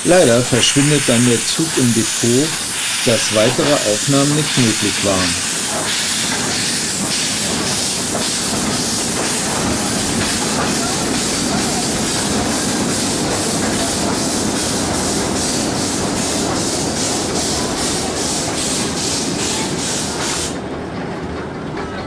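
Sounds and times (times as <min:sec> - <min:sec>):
steam train hissing: 0:00.0 - 0:20.7.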